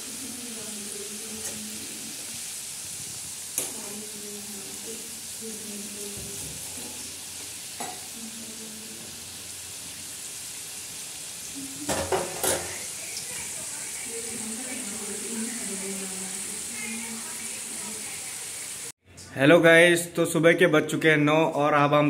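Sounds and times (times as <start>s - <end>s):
deep-frying sizzle: 0.0s - 19.0s.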